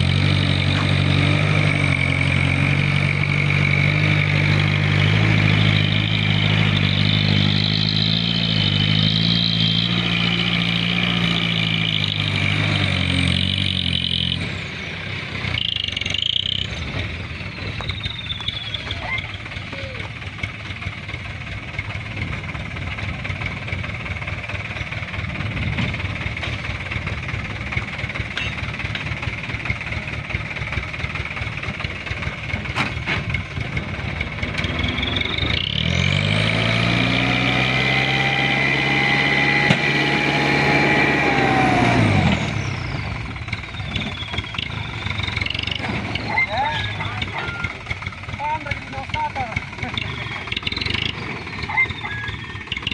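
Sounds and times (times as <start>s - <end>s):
truck diesel engine revving: 0.0s - 52.9s.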